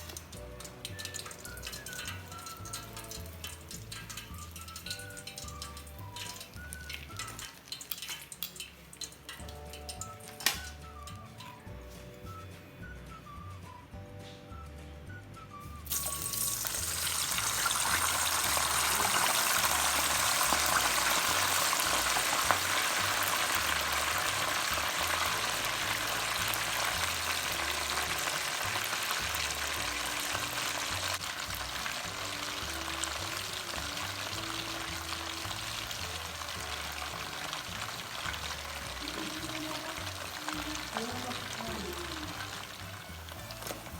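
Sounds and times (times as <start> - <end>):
food sizzling in hot oil: 0.0 - 11.9, 15.8 - 43.9
background music with beat: 0.0 - 43.9.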